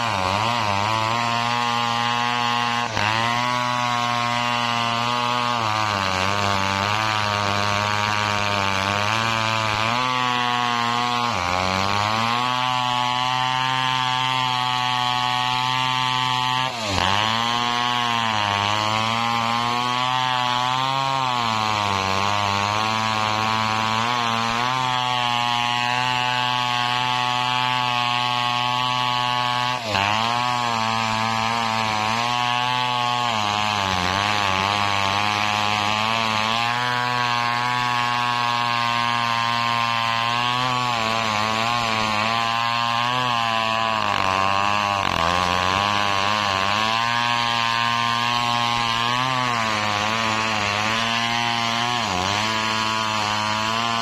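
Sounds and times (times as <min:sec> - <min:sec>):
engine-driven saw cutting wood: 0:00.0 - 0:54.0.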